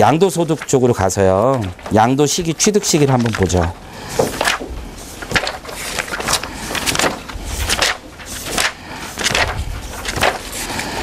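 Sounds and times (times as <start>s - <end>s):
pages turning: 0.1s - 11.0s.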